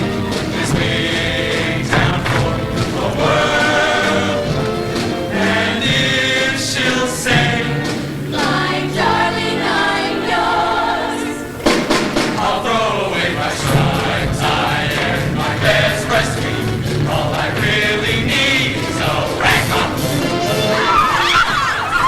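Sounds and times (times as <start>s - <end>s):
band accompaniment: 0.0s - 22.0s
choir singing in harmony: 0.0s - 22.0s.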